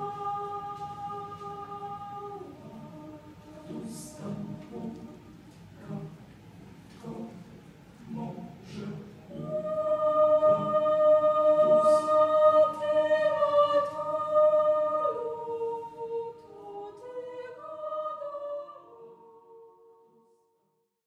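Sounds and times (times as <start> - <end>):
choir singing long notes: 0.0 - 20.4.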